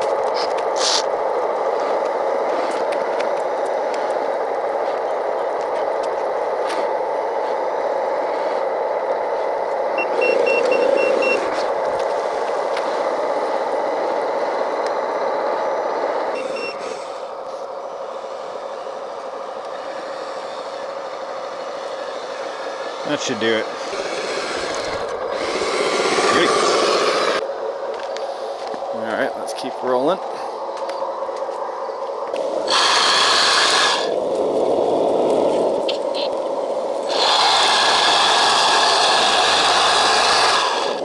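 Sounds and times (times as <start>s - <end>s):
small electric pump humming: 0.0s - 28.9s, 30.8s - 41.0s.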